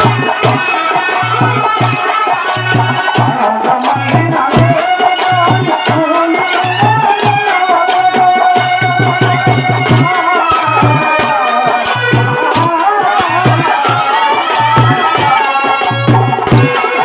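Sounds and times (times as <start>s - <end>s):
drum beating quick rhythm: 0.0s - 17.0s.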